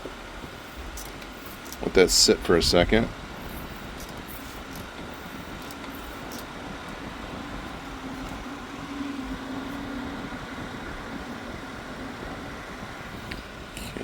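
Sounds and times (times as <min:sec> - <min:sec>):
mechanical droning hum: 0:00.0 - 0:14.0.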